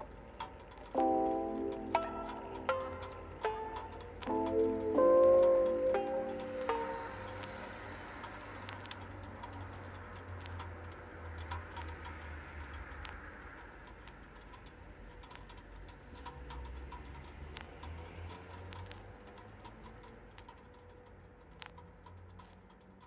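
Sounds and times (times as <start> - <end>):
light clicks and taps: 0.0 - 23.0.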